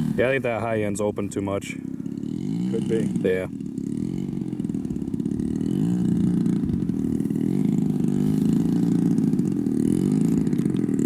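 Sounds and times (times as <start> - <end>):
model airplane engine running rough: 0.0 - 11.0.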